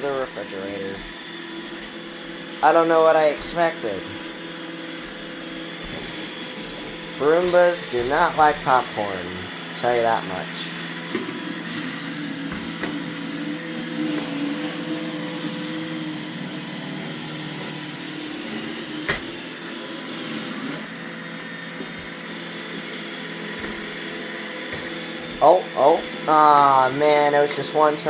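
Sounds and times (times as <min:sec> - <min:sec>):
robot vacuum motor and brush hum: 0:00.0 - 0:28.0.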